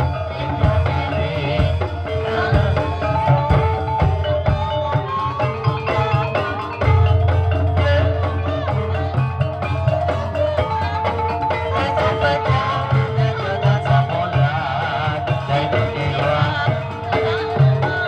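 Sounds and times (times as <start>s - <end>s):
low drum beat: 0.0s - 18.0s
mallet percussion melody: 0.0s - 18.0s.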